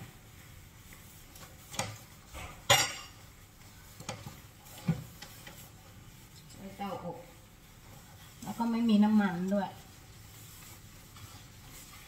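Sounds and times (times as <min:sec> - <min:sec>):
sponge wiping benchtop: 0:00.0 - 0:12.0.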